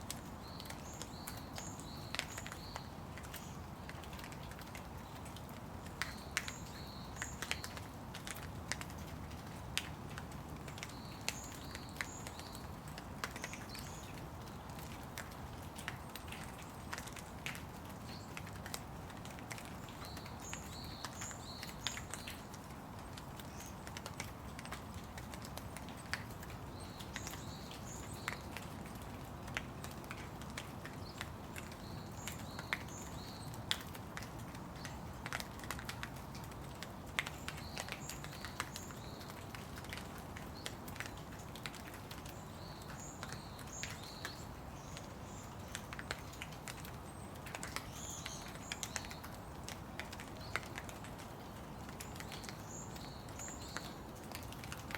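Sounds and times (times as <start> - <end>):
rain drops pattering: 0.0 - 54.9.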